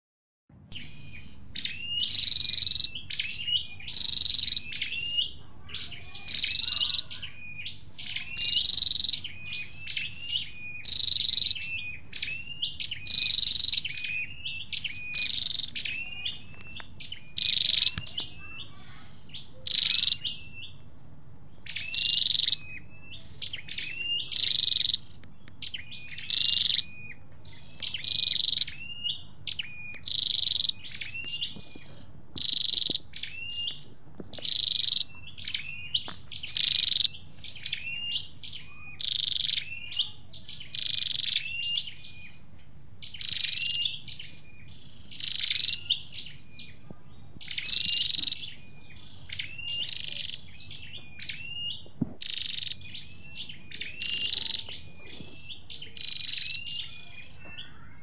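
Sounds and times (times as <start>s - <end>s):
songbird singing high phrase: 0.6s - 58.0s.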